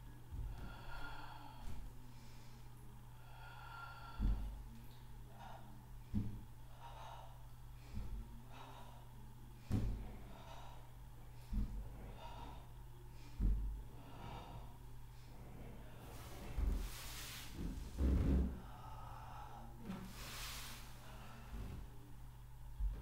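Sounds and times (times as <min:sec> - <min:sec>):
steady low hum: 0:00.0 - 0:23.0
person breathing hard: 0:00.4 - 0:22.0.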